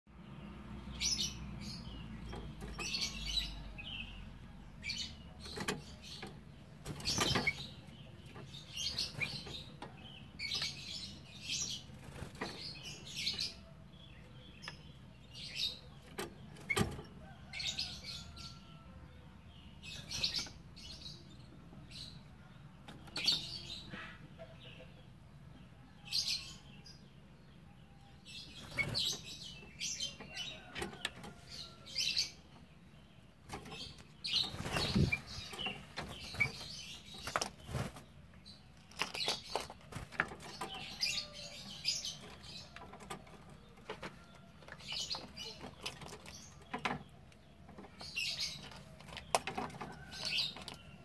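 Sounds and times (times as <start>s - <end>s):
bird chirping: 0.1s - 51.0s.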